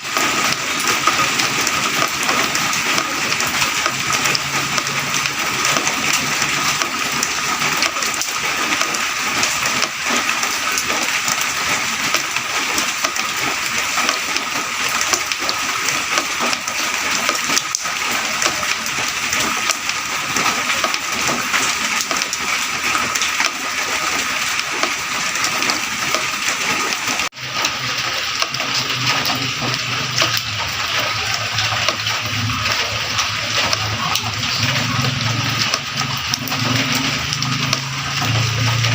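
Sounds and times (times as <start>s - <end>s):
light rain pattering: 0.0s - 38.9s.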